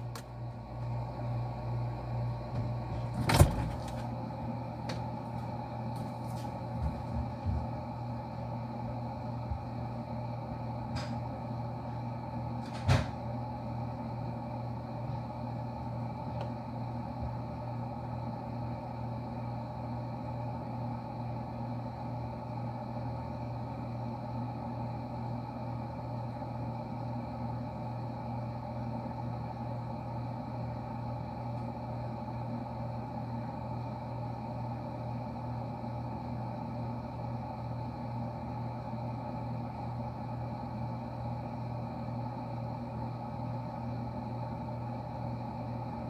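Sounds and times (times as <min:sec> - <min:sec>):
refrigerator humming: 0:00.0 - 0:46.0.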